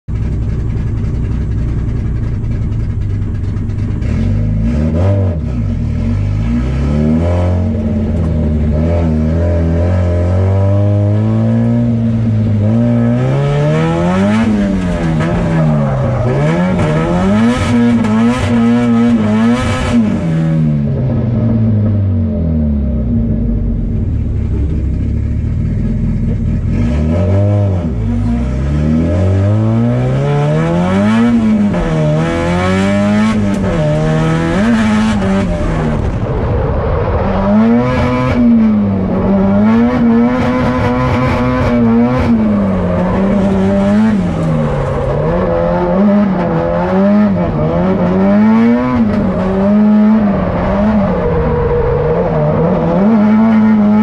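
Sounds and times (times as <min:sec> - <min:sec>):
car engine revving hard: 0:03.9 - 0:20.9, 0:25.9 - 0:54.0.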